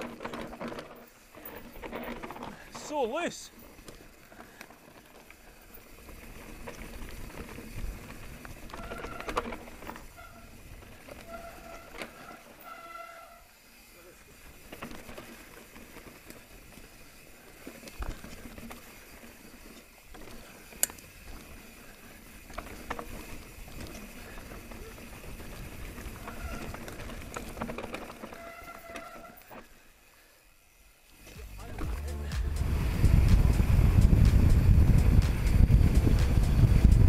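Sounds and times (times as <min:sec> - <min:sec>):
bike chain and frame rattling: 0:00.0 - 0:37.0
bike tyres rolling over dirt: 0:00.0 - 0:37.0.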